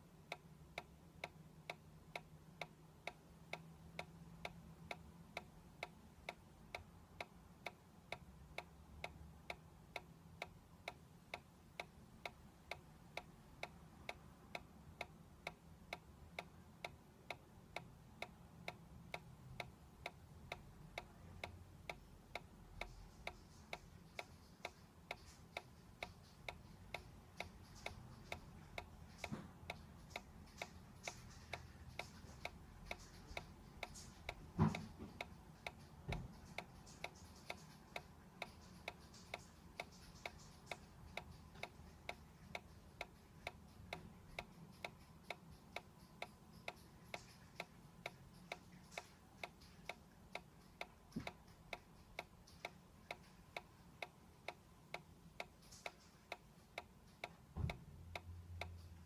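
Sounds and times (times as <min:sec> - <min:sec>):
toy ticking: 0:00.0 - 0:59.0.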